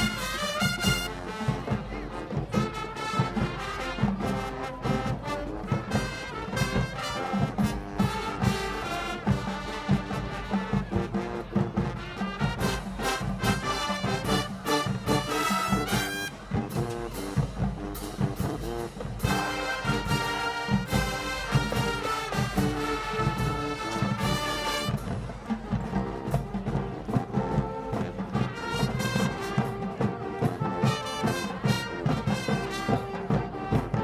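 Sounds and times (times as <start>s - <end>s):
drums keeping a steady beat: 0.0s - 34.0s
marching band brass: 0.0s - 34.0s.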